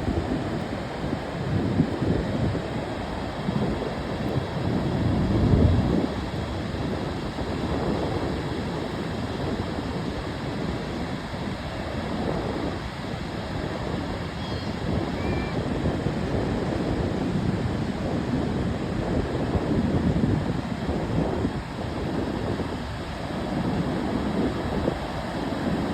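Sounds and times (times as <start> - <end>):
ocean surf washing ashore: 0.0 - 25.9
wind on microphone: 0.0 - 25.9.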